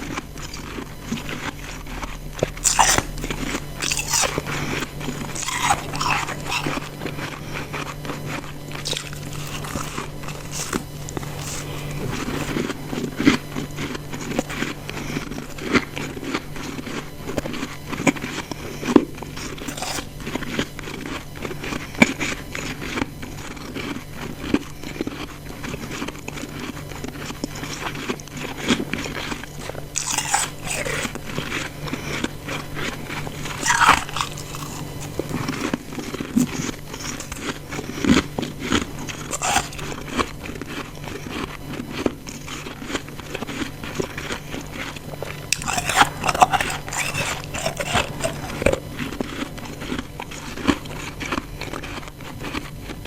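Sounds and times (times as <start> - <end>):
chewing ice crunching: 0.0 - 53.0.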